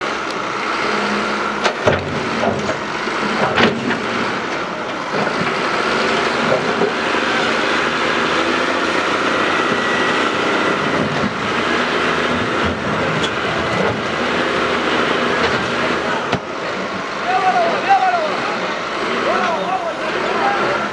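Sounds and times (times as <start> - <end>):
diesel engine under load: 0.0 - 20.9.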